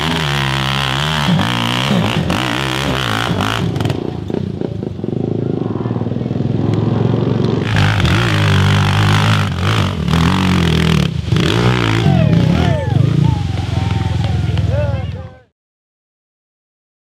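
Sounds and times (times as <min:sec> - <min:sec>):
quad engine revving high: 0:00.0 - 0:04.6, 0:05.5 - 0:14.7.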